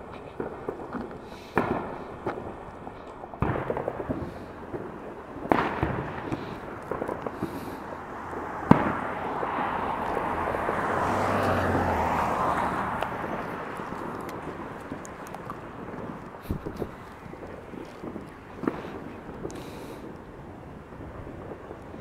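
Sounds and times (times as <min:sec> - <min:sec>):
firecrackers crackling: 0:00.0 - 0:22.0
fireworks bangs: 0:00.0 - 0:22.0
steady rushing noise: 0:00.0 - 0:22.0.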